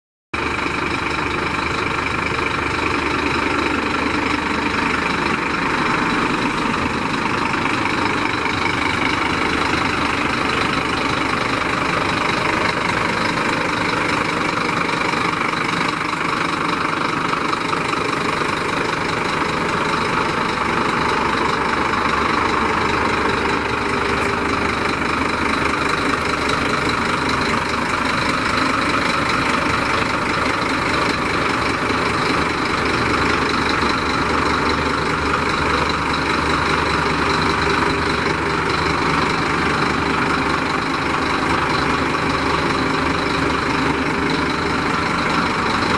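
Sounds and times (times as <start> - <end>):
truck diesel engine idling: 0.4 - 45.9.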